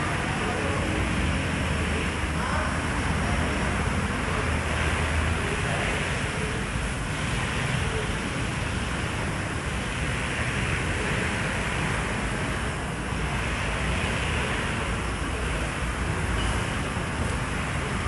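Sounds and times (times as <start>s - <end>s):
rushing noise with low rumble: 0.0s - 18.0s.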